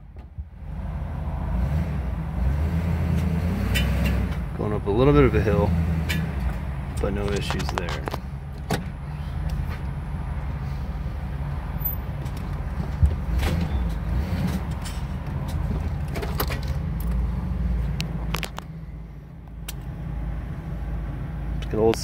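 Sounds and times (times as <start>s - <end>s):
motorhome engine drone: 0.0s - 22.0s.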